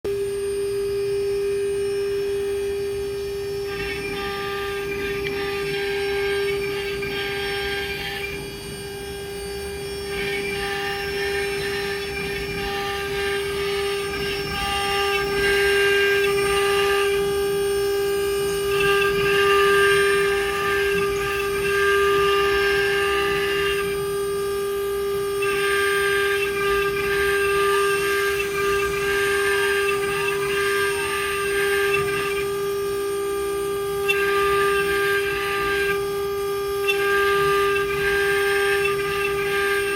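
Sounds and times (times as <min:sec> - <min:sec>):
router spindle whine: 0:00.0 - 0:39.9
cutter cutting wood: 0:03.6 - 0:24.1, 0:25.0 - 0:32.6, 0:34.0 - 0:39.9.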